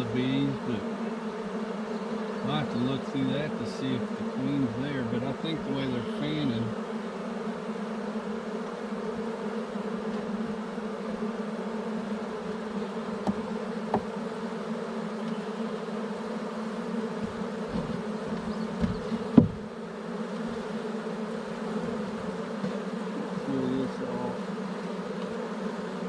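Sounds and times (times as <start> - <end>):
honeybee swarm buzzing: 0.0 - 26.0.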